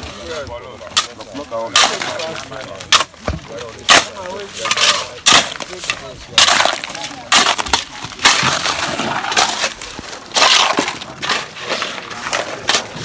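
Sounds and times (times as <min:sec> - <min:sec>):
wet concrete and gravel scraping: 0:00.0 - 0:13.0.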